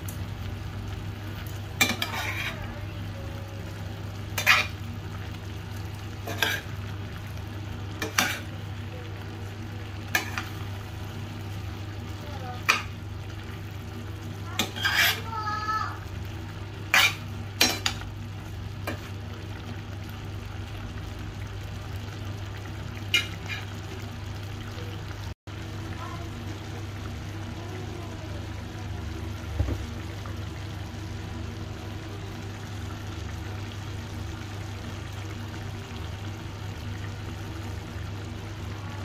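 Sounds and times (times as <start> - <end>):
chicken sizzling in a pan: 0.0 - 39.0.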